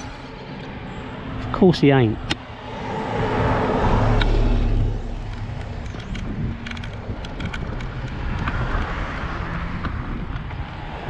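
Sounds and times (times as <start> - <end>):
bus engine passing: 0.0 - 11.0
road and wind noise: 0.0 - 11.0.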